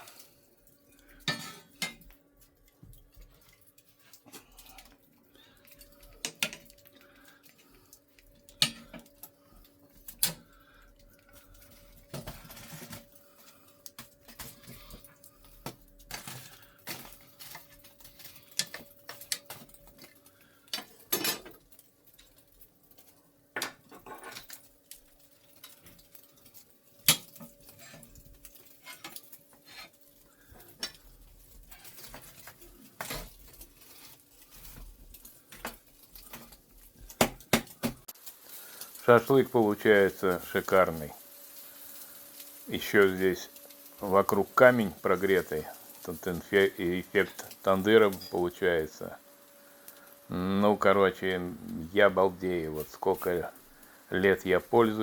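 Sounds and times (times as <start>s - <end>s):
utensils and dishes clinking: 0.0s - 41.2s, 41.9s - 49.0s.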